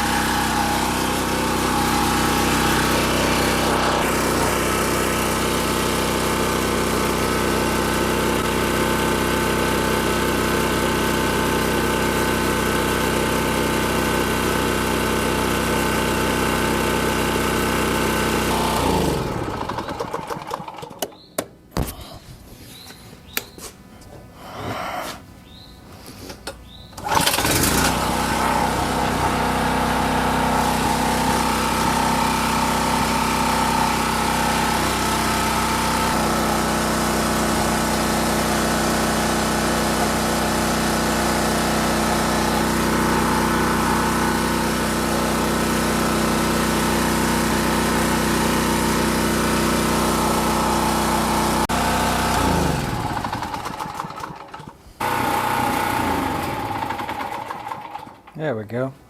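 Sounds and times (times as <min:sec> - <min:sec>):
generator engine running: 0:00.0 - 0:22.2, 0:26.0 - 0:58.4.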